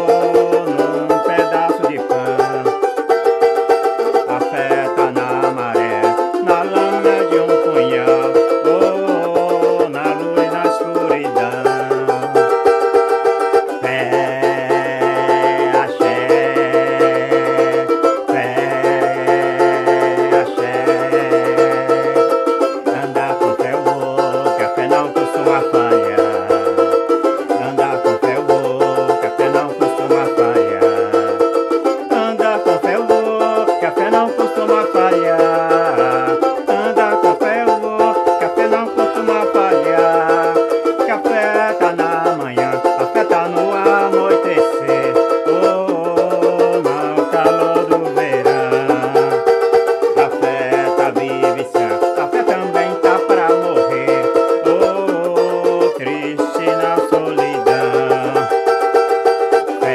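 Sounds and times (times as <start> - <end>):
banjo strumming chords: 0.0 - 59.9
lower melody line: 0.0 - 59.9.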